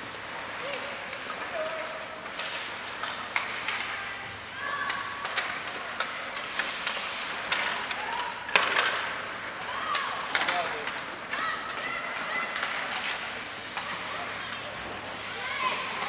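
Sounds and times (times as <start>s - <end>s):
hockey sticks striking puck: 0.0s - 14.9s
skates scraping ice: 0.0s - 16.0s.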